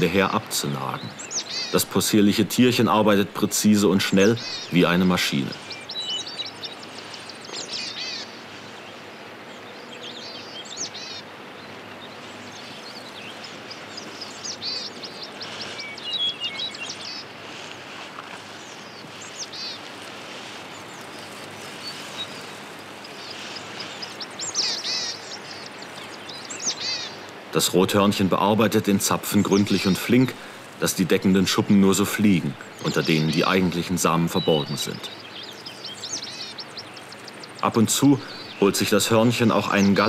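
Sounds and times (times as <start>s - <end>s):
high chirping calls: 0.0s - 40.0s
steady background hiss: 0.0s - 40.0s.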